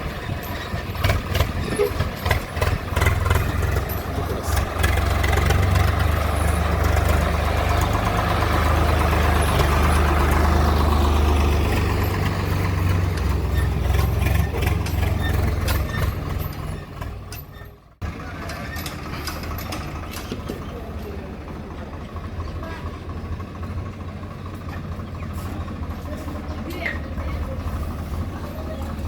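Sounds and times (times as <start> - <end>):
tractor engine rumbling: 0.0 - 29.0.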